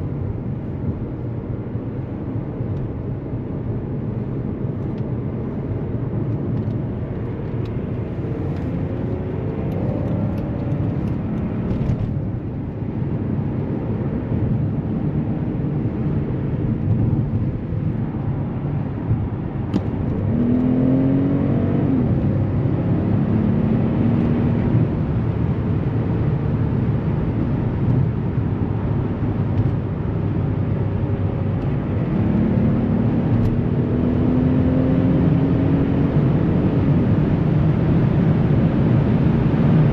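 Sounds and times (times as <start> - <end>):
car engine accelerating: 5.6 - 39.9.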